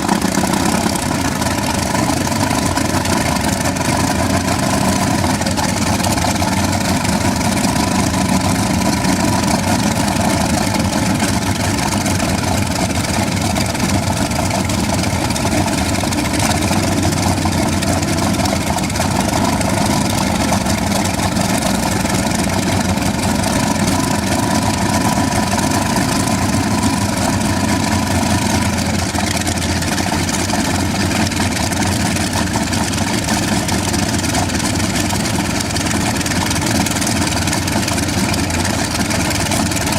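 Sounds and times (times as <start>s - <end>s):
helicopter engine drone: 0.0s - 39.9s.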